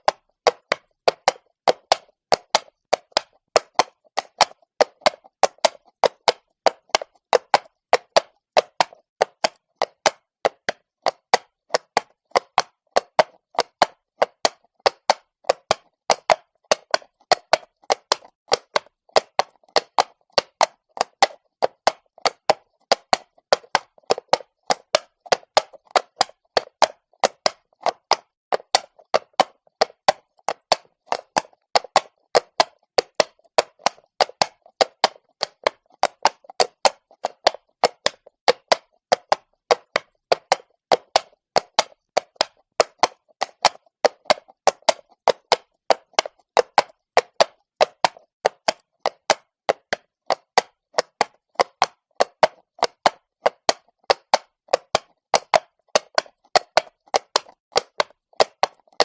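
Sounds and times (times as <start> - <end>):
horse hooves clip-clopping on stone: 0.0 - 59.0.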